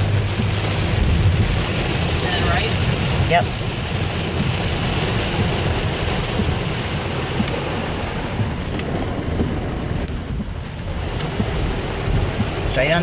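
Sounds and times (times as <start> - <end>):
heavy rain: 0.0 - 13.0
low road rumble: 0.0 - 13.0.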